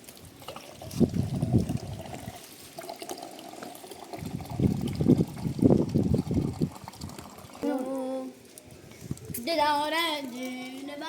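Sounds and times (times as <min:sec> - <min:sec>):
water being poured: 0:00.0 - 0:09.3.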